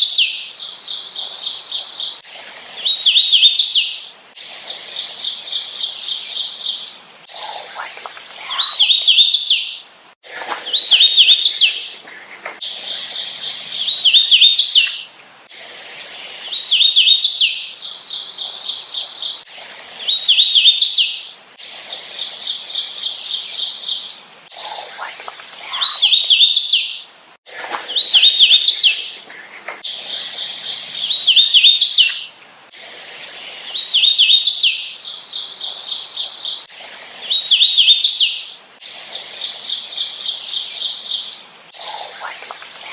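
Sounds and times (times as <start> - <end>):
warbler singing: 0.0 - 9.9, 10.5 - 15.2, 16.1 - 32.4, 33.2 - 42.9.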